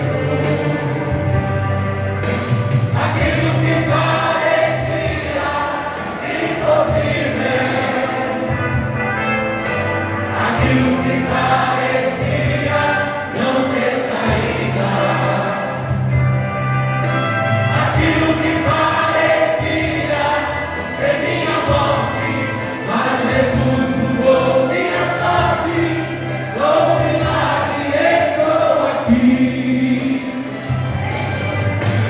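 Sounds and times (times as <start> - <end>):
choir singing worship song: 0.0 - 16.4, 17.0 - 30.9
backing music with low bass: 0.0 - 32.0.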